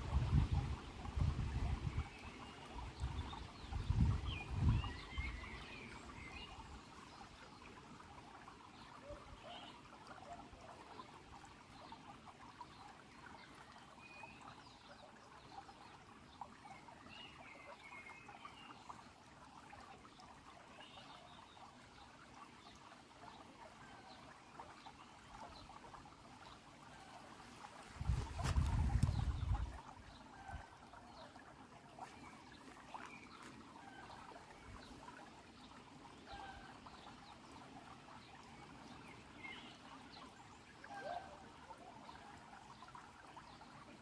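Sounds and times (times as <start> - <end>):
stream trickling over pebbles: 0.0 - 44.0.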